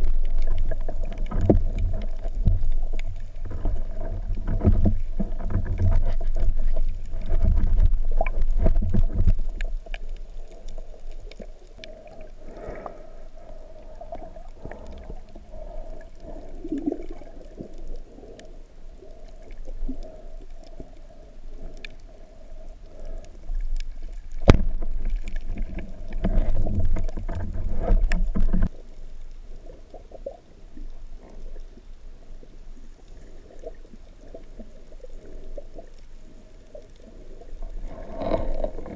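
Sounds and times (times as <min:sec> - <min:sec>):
low underwater rumbling: 0:00.0 - 0:38.9
underwater water wash: 0:00.0 - 0:38.9.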